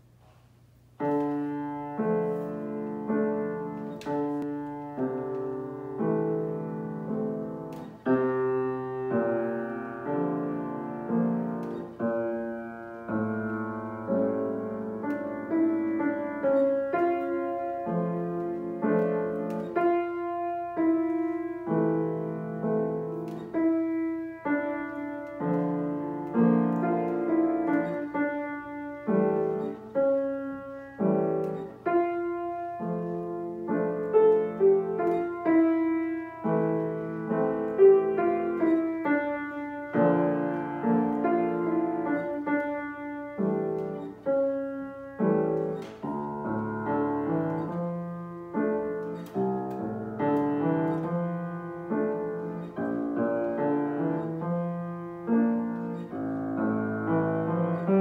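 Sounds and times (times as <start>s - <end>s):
slow solo piano piece: 0.0s - 58.0s.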